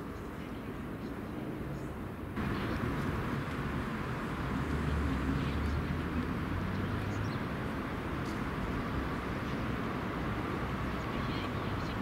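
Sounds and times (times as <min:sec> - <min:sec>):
distant engines and traffic rumble: 0:00.0 - 0:12.0.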